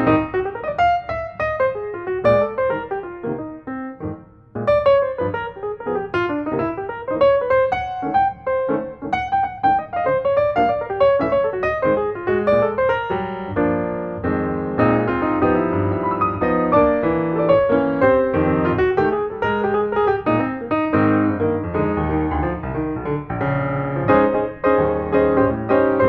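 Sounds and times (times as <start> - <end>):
lively piano run: 0.0 - 26.0.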